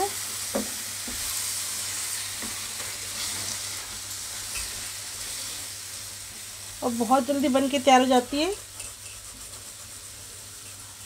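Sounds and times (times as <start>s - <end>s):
steady sizzle: 0.0s - 11.0s.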